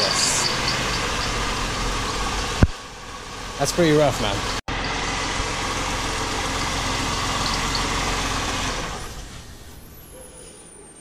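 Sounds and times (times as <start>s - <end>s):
car engine knocking: 0.0s - 9.0s.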